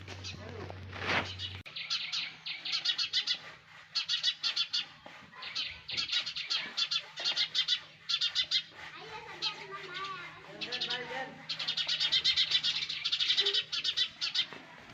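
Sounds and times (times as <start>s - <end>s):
chicks chirping: 0.0s - 14.6s.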